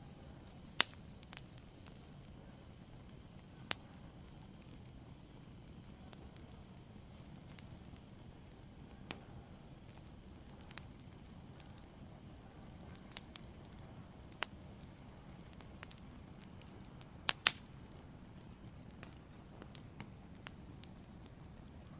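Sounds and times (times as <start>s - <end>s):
fire crackles and pops: 0.0s - 21.9s
fire low steady rumble: 0.0s - 21.9s.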